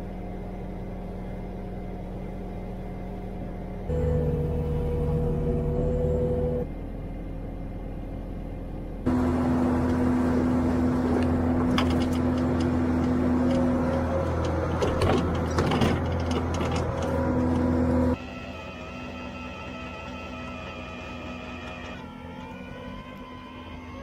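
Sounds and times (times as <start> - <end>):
snowblower engine hum: 0.0 - 24.0.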